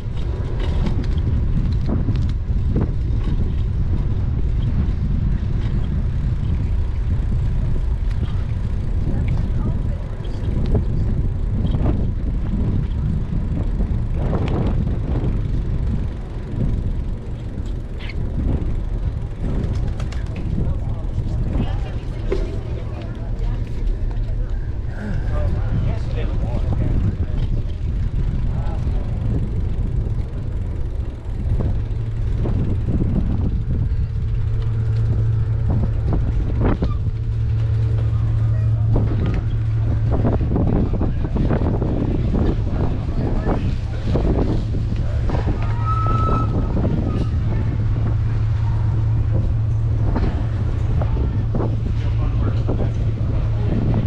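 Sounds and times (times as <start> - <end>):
bicycle rolling noise: 0.0 - 54.0
boat engine humming: 0.0 - 54.0
wind buffeting microphone: 0.0 - 54.0.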